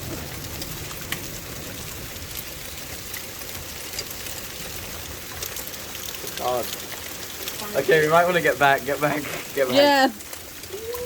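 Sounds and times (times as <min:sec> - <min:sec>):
hailstones ticking: 0:00.0 - 0:11.0
heavy rain falling: 0:00.0 - 0:11.0.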